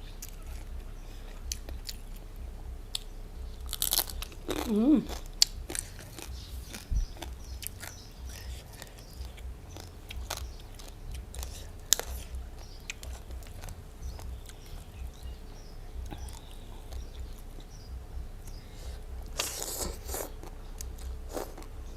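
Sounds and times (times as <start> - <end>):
mouth clicks and crunches: 0.0 - 21.9
person chewing food: 0.0 - 21.9.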